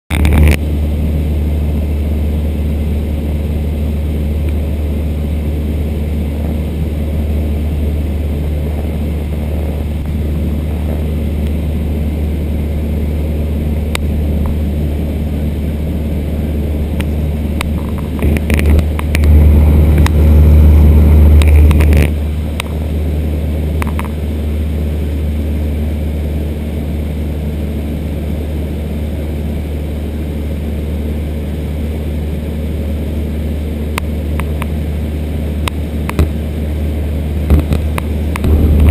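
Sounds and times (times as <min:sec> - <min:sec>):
light aircraft engine drone: 0:00.1 - 0:38.9.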